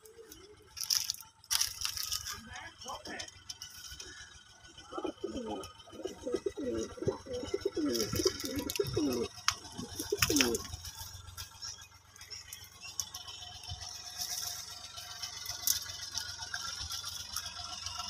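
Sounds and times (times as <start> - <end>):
pigeons cooing: 0.0 - 2.3, 3.6 - 18.0.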